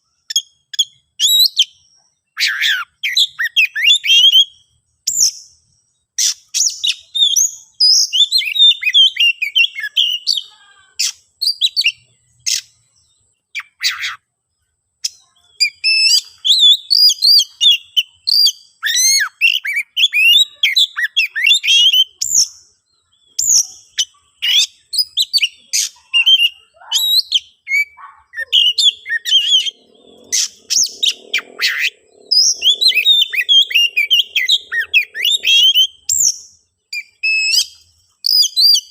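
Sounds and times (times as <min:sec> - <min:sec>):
bird singing whistles and warbles: 0:00.0 - 0:14.2, 0:15.0 - 0:38.9.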